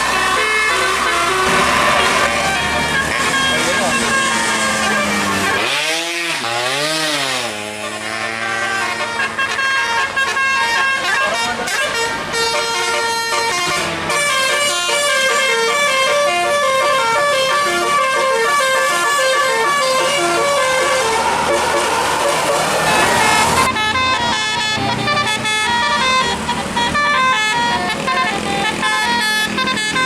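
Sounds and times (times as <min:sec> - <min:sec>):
musical bus air horn: 0:00.0 - 0:30.0.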